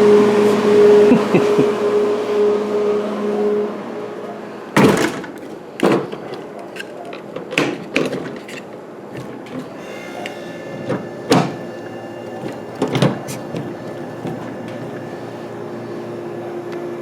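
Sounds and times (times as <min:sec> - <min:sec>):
cooler humming: 0:00.0 - 0:06.6, 0:08.8 - 0:17.0.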